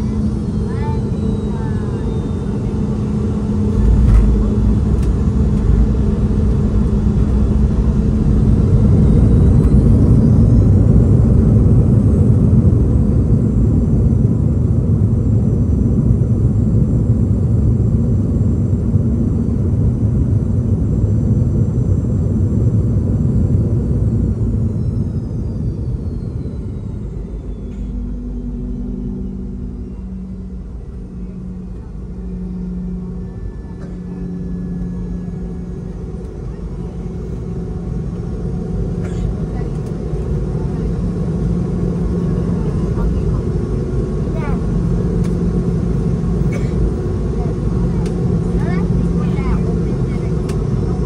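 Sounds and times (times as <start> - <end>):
jet engine rumble and whine: 0.0 - 51.0.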